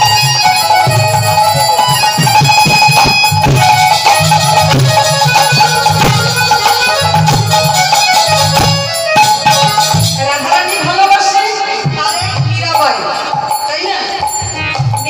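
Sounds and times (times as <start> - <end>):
barrel drums beating: 0.0 - 15.0
keyboard melody: 0.0 - 15.0.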